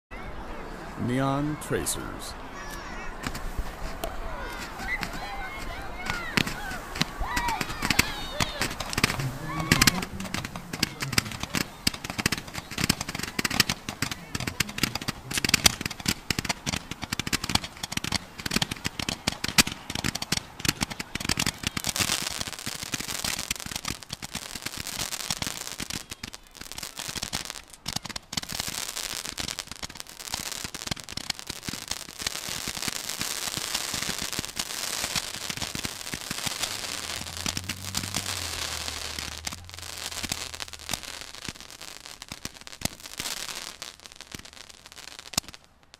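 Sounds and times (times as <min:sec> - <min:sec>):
firework pops and crackling hiss: 0:02.7 - 0:45.9.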